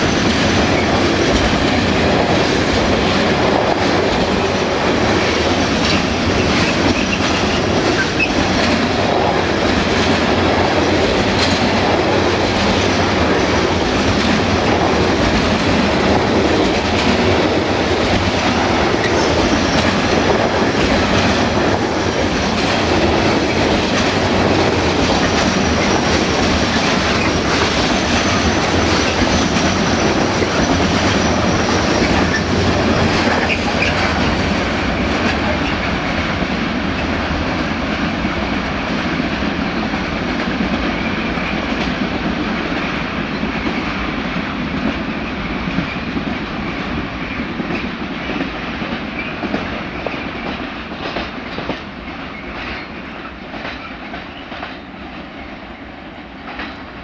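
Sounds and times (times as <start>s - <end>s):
wheels clacking over rail joints: 0.0s - 54.9s
freight train wagons rolling: 0.0s - 55.5s.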